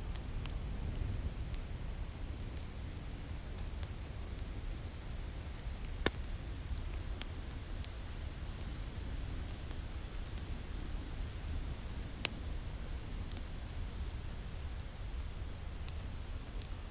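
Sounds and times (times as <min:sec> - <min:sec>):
low rumble of wind: 0:00.0 - 0:16.9
wood fire crackling and popping: 0:00.0 - 0:16.9.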